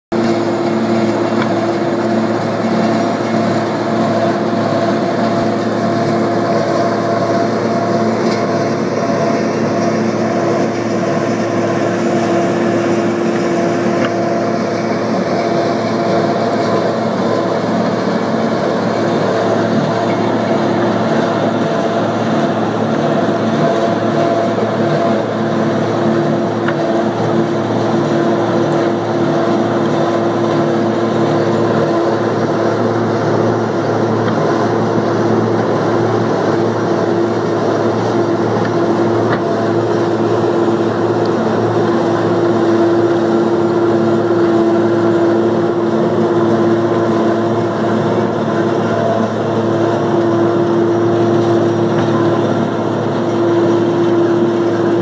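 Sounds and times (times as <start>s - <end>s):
excavator machine drone: 0.1s - 55.0s.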